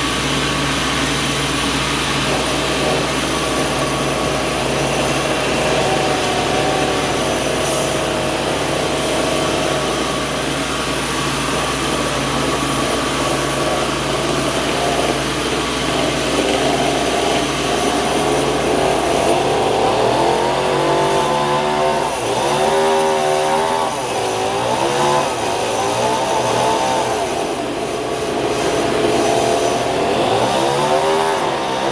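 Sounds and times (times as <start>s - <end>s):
sawmill machinery running: 0.0s - 31.9s.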